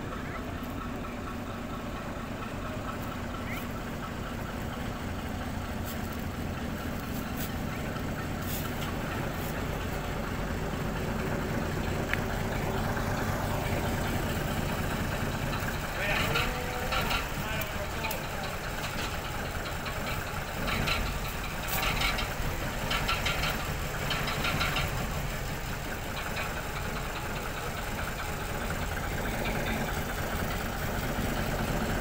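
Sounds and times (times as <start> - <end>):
diesel locomotive engine running: 0.0 - 32.0.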